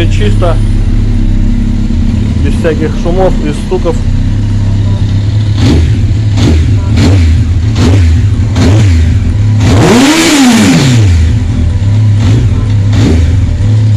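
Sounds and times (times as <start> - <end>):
motorcycle engine idling and revving: 0.0 - 13.9.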